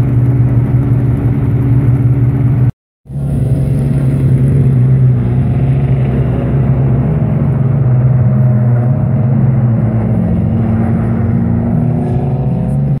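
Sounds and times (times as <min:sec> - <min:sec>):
car accelerating: 0:00.0 - 0:13.0
race car engines running: 0:00.0 - 0:13.0.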